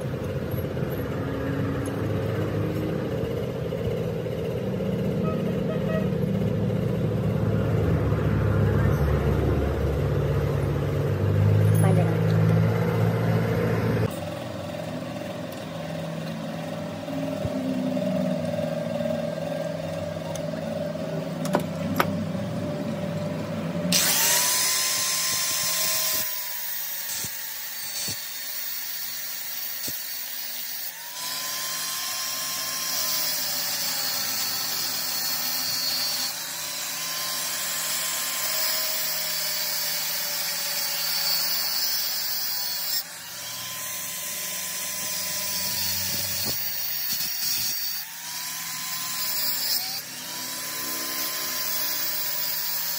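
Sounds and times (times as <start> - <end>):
angle grinder cutting steel: 0.0 - 52.9.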